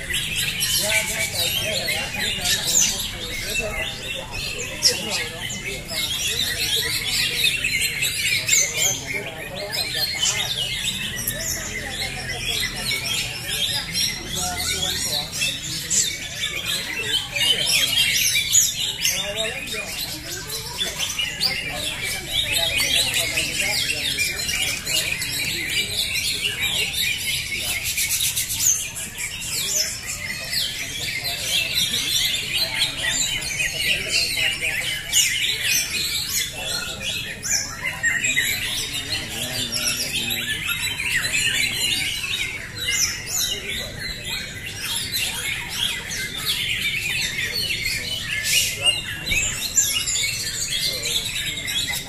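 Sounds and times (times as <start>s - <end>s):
caged birds singing in chorus: 0.0s - 52.0s.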